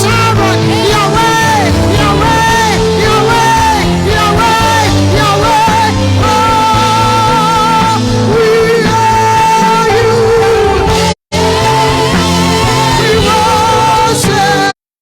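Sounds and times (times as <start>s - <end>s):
band accompaniment: 0.0s - 14.7s
person singing long notes: 0.0s - 14.8s.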